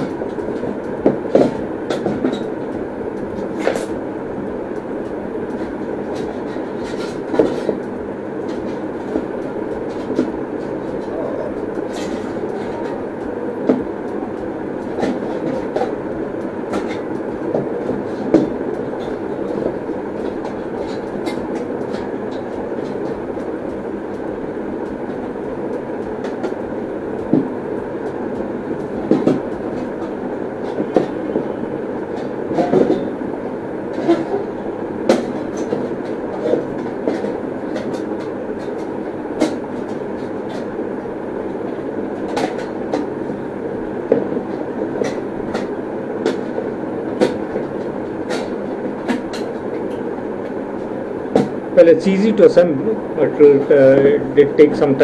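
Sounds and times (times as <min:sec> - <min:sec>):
steady rumbling background noise: 0:00.0 - 0:55.0.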